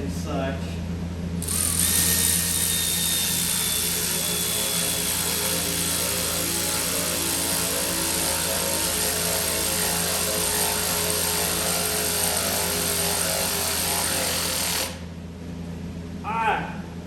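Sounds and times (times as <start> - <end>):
machine motor roaring: 1.4 - 15.1.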